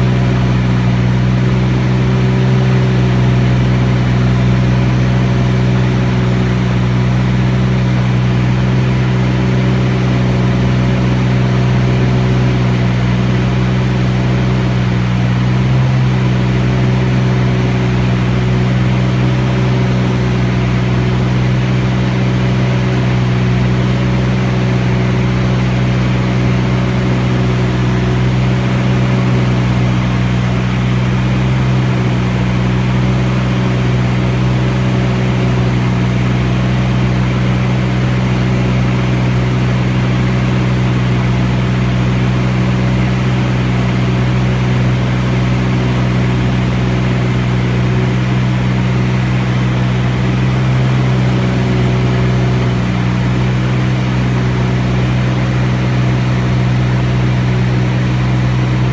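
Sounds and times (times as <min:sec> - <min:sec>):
propeller plane engine drone: 0:00.0 - 0:58.9.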